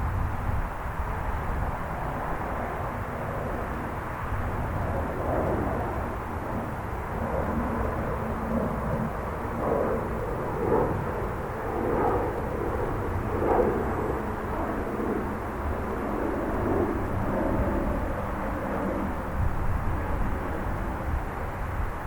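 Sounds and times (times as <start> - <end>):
jet airliner engines running: 0.0 - 22.0.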